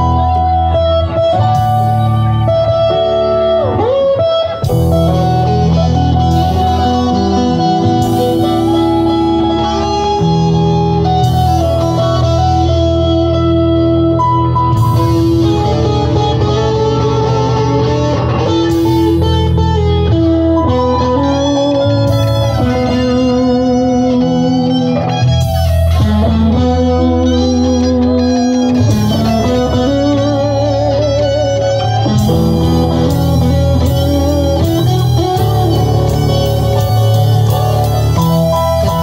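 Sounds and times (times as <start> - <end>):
bass notes: 0.0 - 39.0
electric guitar lead: 0.0 - 39.0.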